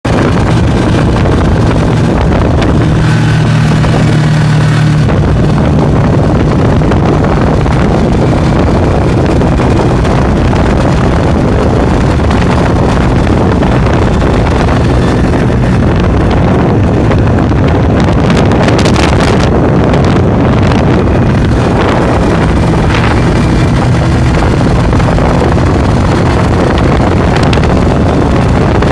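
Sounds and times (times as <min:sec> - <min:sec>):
snowmobile engine running: 0:00.0 - 0:28.9
wind noise on microphone: 0:00.0 - 0:28.9.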